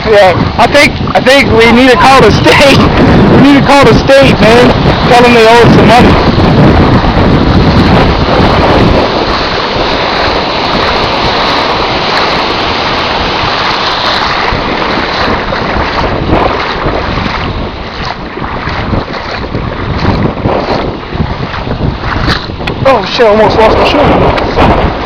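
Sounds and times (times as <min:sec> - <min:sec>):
wading through floodwater: 0:00.0 - 0:25.0
wind buffeting microphone: 0:00.0 - 0:25.0.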